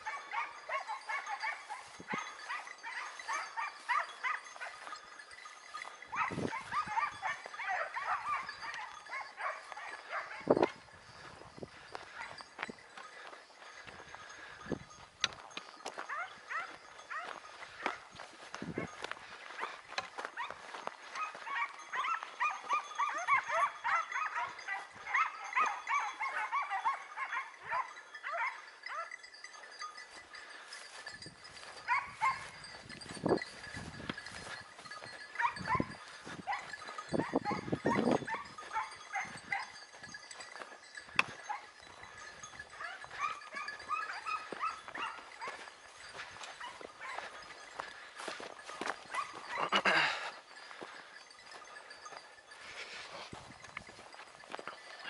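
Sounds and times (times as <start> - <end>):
hounds yelping: 0.0 - 55.0.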